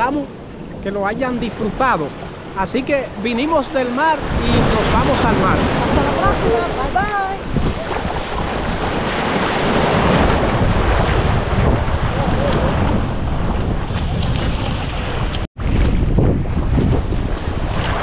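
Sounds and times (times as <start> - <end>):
sea surf washing ashore: 0.0 - 18.0
wind buffeting microphone: 0.0 - 18.0.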